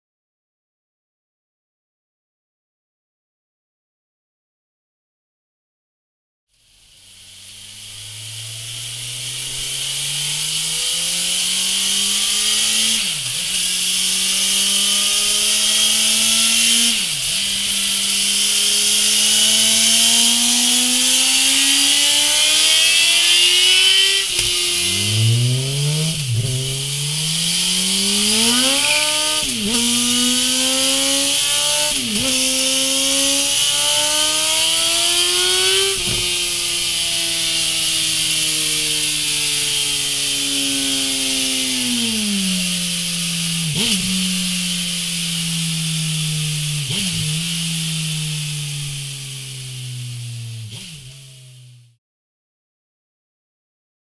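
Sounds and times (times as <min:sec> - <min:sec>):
motorcycle engine accelerating: 0:06.5 - 0:52.0.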